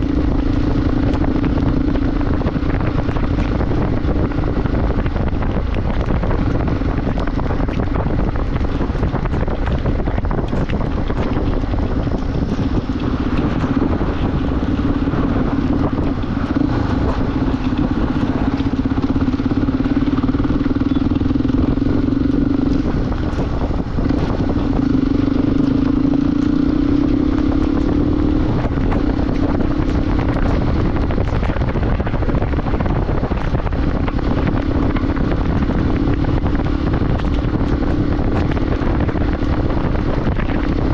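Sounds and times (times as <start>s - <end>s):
motorcycle engine cruising: 0.0s - 40.9s
wind buffeting microphone: 0.0s - 40.9s.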